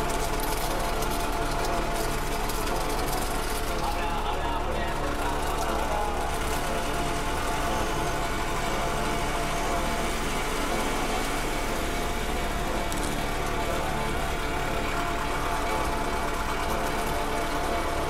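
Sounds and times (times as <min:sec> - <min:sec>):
mechanical engine drone: 0:00.0 - 0:18.0.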